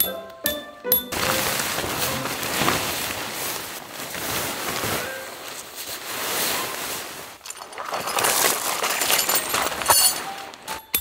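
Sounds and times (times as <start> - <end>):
fabric crinkling with small clicks: 1.1 - 10.8
tent fabric rustling: 1.1 - 10.8.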